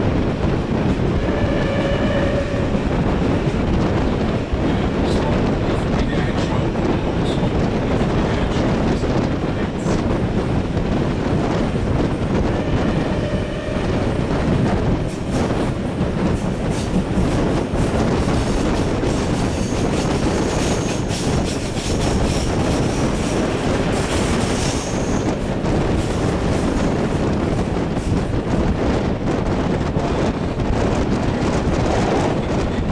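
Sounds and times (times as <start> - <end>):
train rumble: 0.0 - 32.9.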